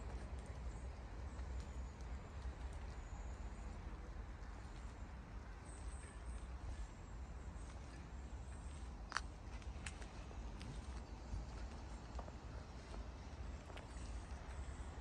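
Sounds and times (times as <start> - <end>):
footsteps on wet tarmac: 0.0 - 15.0
steady low rumble: 0.0 - 15.0.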